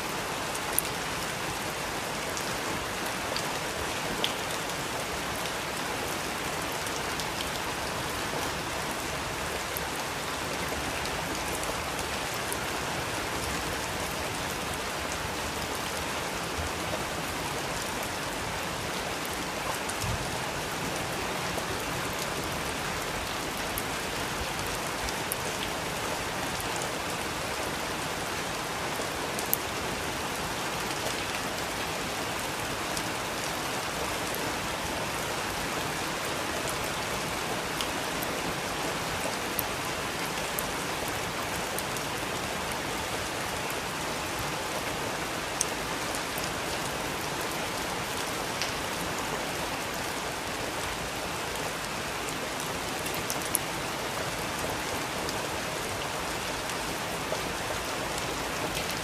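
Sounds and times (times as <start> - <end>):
rain hissing on surfaces: 0.0 - 59.0.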